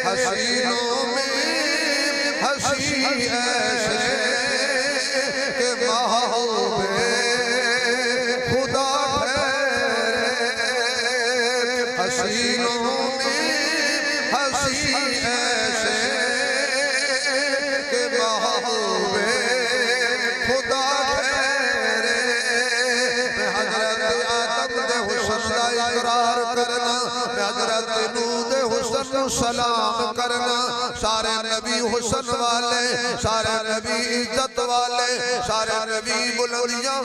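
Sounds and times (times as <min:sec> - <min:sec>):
man chanting: 0:00.0 - 0:37.0.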